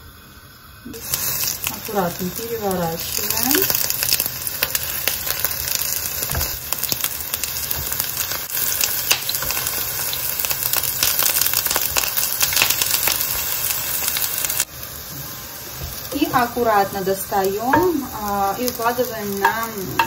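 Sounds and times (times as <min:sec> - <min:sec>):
eggplant sizzling in hot oil: 0:00.1 - 0:20.0.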